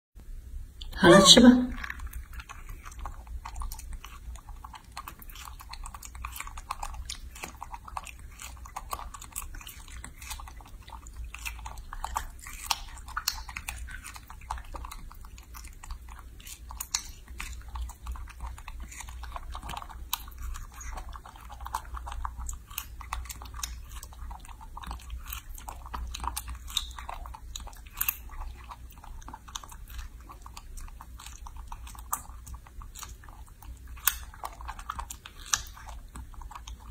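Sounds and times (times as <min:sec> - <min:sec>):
monkey chewing strawberries: 0:00.8 - 0:36.9.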